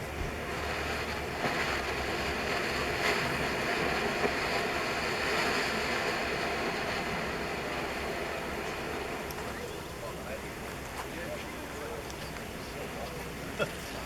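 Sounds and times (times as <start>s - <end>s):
fireworks fountain hissing: 0.0s - 14.0s.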